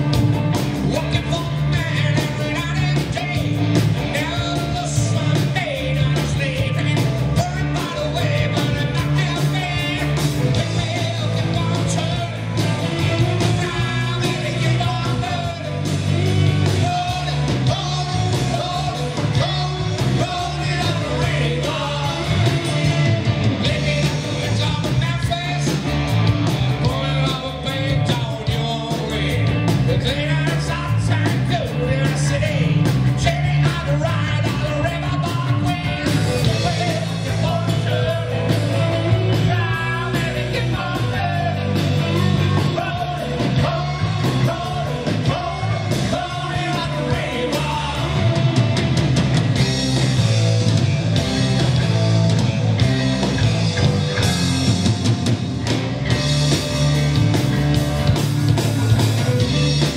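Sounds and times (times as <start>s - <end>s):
bass guitar: 0.0s - 59.9s
drum kit: 0.0s - 59.9s
electric guitars: 0.0s - 59.9s.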